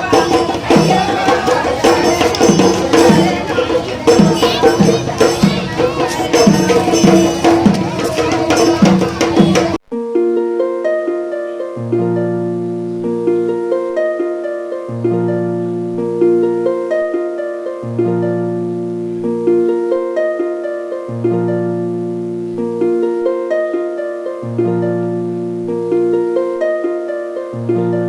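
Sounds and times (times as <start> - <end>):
plucked notes over low held note: 0.0 - 28.0.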